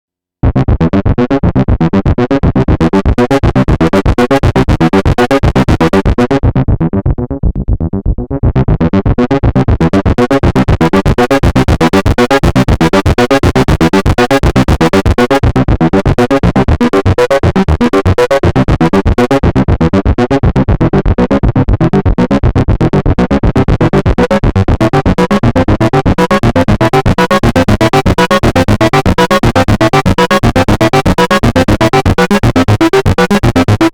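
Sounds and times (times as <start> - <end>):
synthesizer note sequence: 4.1 - 33.9.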